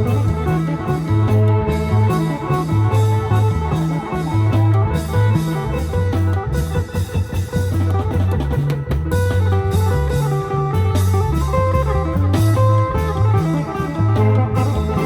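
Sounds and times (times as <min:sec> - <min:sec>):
bass notes: 0:00.0 - 0:15.0
drums: 0:00.0 - 0:15.0
electric guitar melody: 0:00.0 - 0:15.0.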